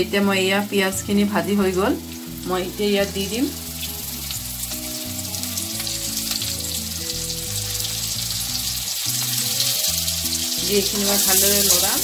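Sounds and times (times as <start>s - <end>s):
low background tune: 0.0s - 12.0s
fish sizzling in hot oil: 0.1s - 12.0s.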